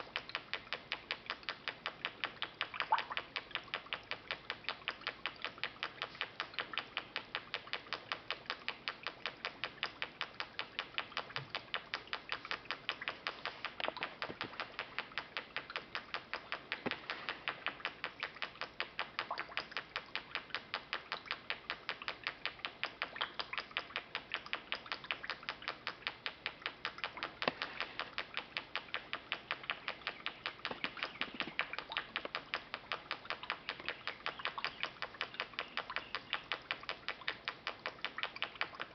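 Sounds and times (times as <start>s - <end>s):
pop-pop boat motor ticking: 0.0s - 38.9s.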